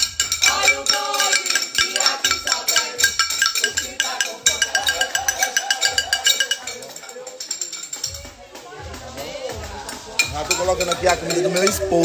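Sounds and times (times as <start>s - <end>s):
glass ringing: 0.0s - 8.3s, 10.1s - 12.0s
spoons clinking on glass bowls: 0.0s - 8.4s, 9.8s - 12.0s.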